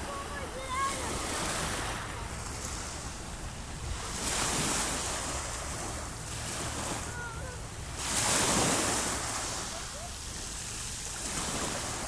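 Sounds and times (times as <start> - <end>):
steady low rumble: 0.0 - 11.1
sea waves breaking: 0.0 - 12.0.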